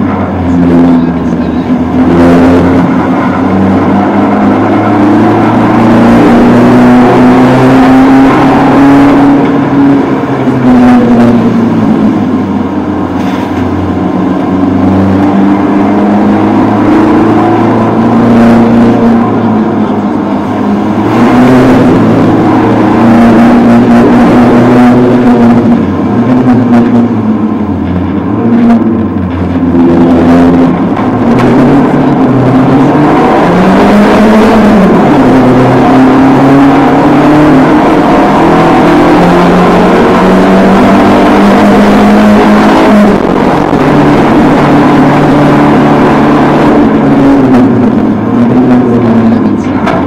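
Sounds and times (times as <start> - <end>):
car engine at high revs: 0.0 - 50.0
tyre and road noise: 0.0 - 50.0.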